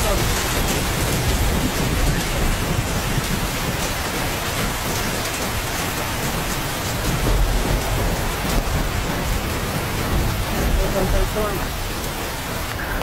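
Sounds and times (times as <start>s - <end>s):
hail pelting street and car: 0.0s - 13.0s.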